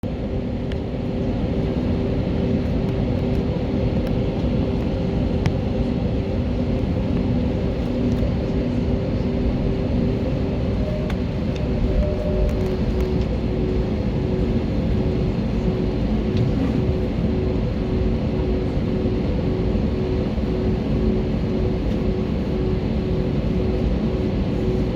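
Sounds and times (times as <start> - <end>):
jet engines running: 0.0 - 24.9.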